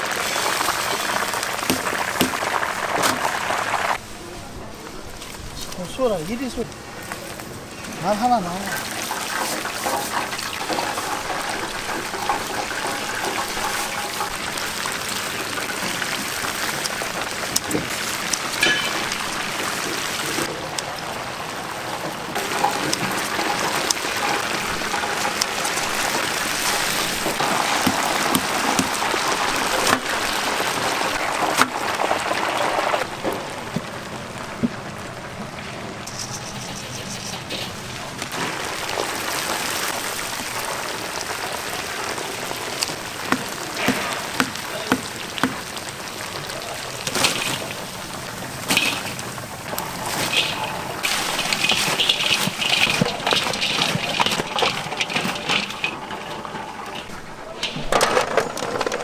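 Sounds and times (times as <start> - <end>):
oil popping: 0.0 - 4.0, 8.7 - 36.7, 37.4 - 59.0
oil sizzling: 0.0 - 4.2, 5.1 - 57.9.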